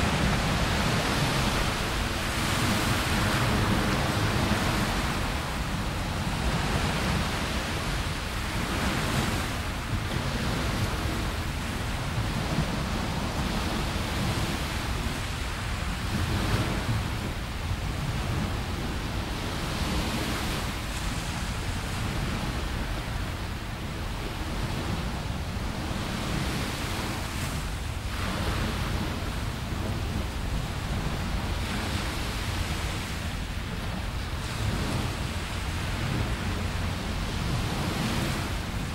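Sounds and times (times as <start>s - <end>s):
small waves washing onto beach: 0.0s - 38.9s
wind rumble on microphone: 0.0s - 38.9s.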